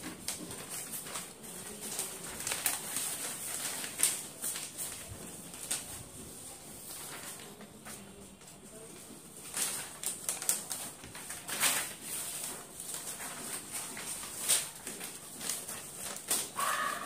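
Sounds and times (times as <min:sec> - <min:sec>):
paper rustling and crackling: 0:00.0 - 0:17.0.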